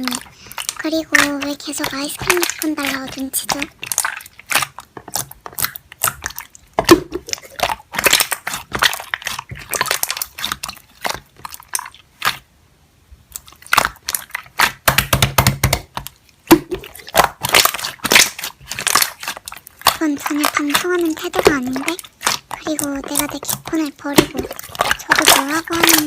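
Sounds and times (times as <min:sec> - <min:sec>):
wet clicks and air bubble pops: 0:00.0 - 0:12.4, 0:13.3 - 0:26.0
slime squished by hand: 0:00.0 - 0:12.5, 0:13.3 - 0:26.0.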